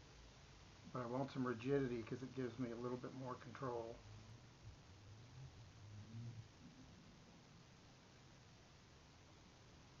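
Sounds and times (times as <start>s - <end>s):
faint low sound: 0.0s - 10.0s
faint steady hiss: 0.0s - 10.0s.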